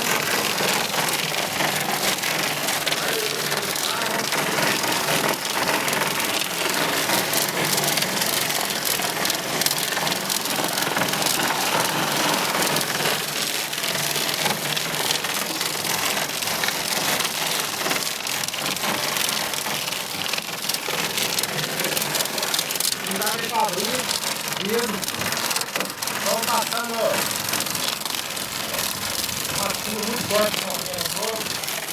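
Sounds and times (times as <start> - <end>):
hail and heavy rain pelting: 0.0 - 31.9.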